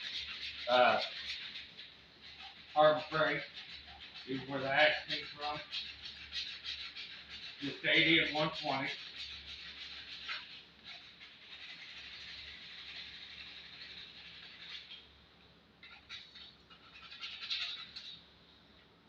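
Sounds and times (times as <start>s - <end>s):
sandpaper rasping on wood: 0.0s - 15.0s, 15.8s - 18.1s.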